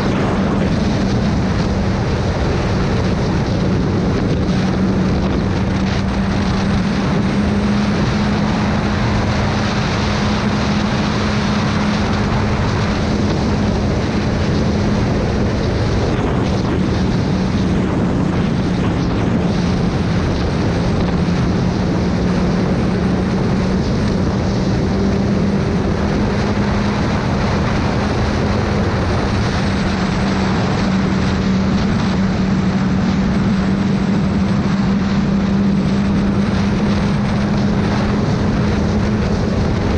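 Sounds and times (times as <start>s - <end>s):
loud rushing wind: 0.0s - 39.9s
motorcycle engine cruising: 0.0s - 39.9s
road noise: 0.0s - 39.9s.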